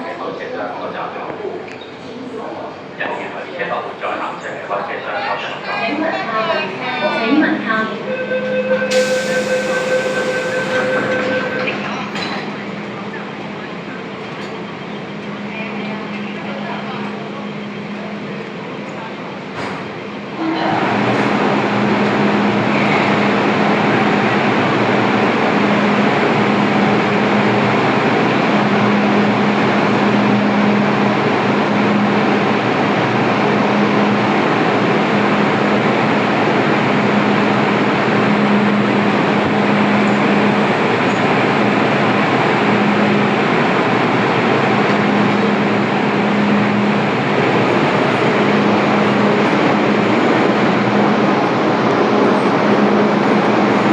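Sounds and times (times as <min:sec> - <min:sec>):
electric train rolling rumble: 0:00.1 - 0:53.9.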